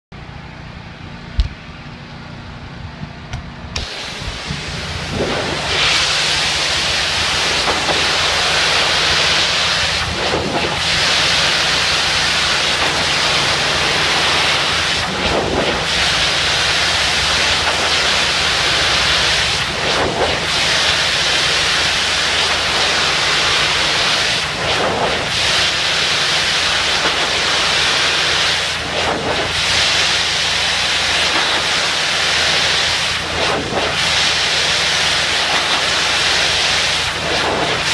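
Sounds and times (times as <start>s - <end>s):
low machine hum: 0.1s - 37.9s
pressure washer spray hissing: 3.8s - 37.9s.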